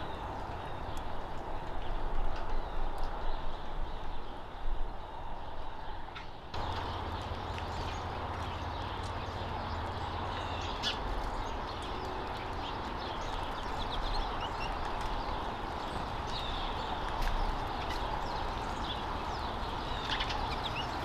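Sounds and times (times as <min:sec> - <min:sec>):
small birds chirping: 0:00.0 - 0:21.0
steady outdoor hiss: 0:00.0 - 0:21.0.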